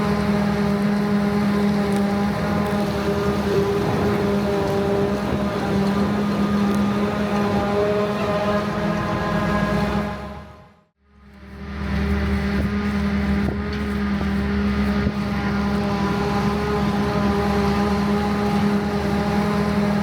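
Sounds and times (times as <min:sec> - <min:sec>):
farm machinery engine drone: 0:00.0 - 0:20.0.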